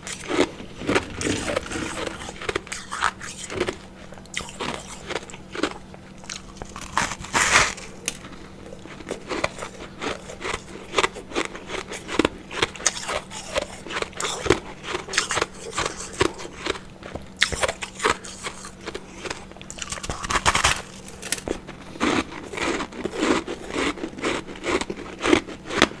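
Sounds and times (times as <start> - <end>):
faint steady hum: 0.0 - 26.0
ice crunching while chewed: 0.0 - 26.0.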